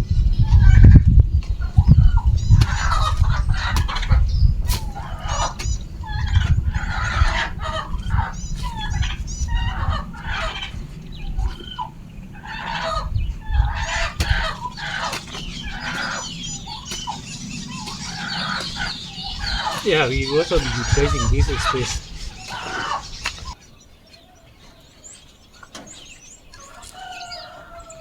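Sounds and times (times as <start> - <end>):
chickens clucking: 0.0 - 23.8.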